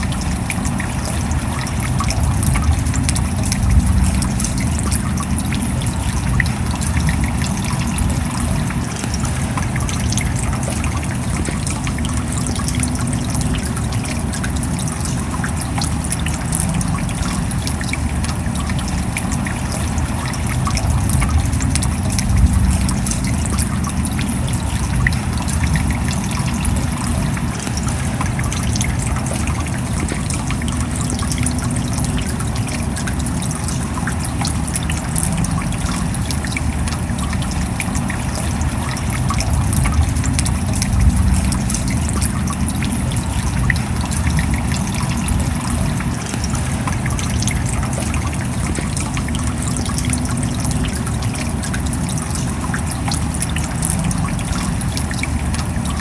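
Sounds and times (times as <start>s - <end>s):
steady rain: 0.0s - 56.0s
water trickling: 0.0s - 56.0s.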